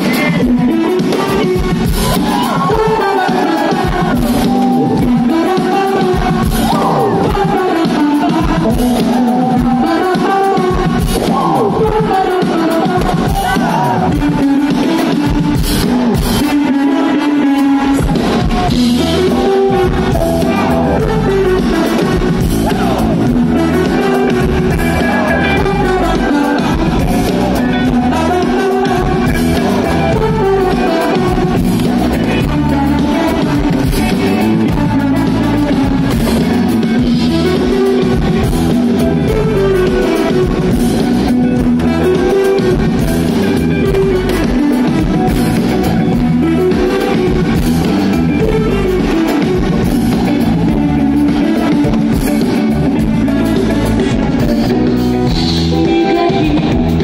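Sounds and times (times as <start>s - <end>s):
live band playing: 0.0s - 57.0s
woman singing: 0.0s - 57.0s.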